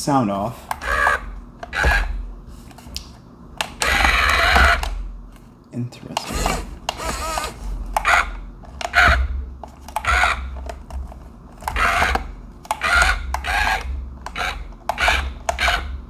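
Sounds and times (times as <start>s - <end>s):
toy electric motors and gears rasping: 0.7s - 2.9s, 3.7s - 5.0s, 6.2s - 16.0s.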